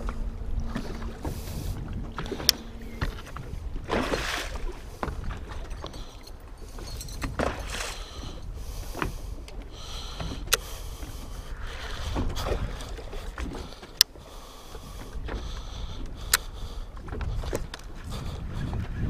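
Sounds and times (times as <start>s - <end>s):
waves lapping against boat hull: 0.0s - 19.0s
wind rumbling on microphone: 0.0s - 19.0s.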